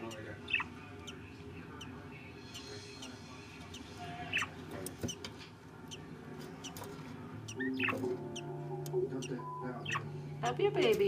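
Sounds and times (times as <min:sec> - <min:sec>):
budgerigars chirping: 0:00.0 - 0:05.2, 0:05.9 - 0:11.0.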